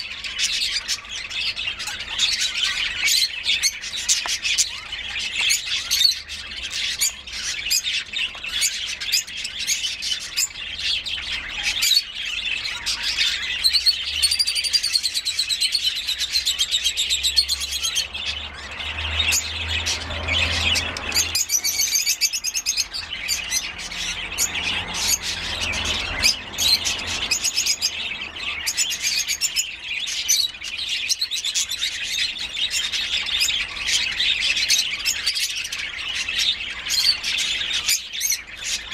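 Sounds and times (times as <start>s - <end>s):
lovebirds squeaky chirping: 0.0s - 38.9s.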